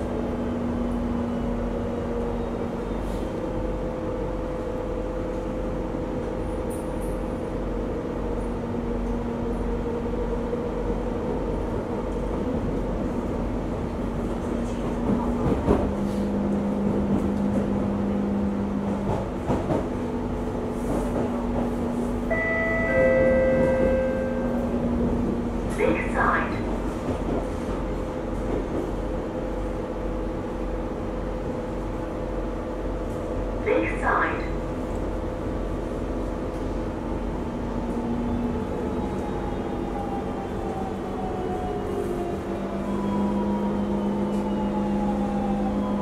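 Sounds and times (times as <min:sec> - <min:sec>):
train rumble and hum: 0:00.0 - 0:46.0.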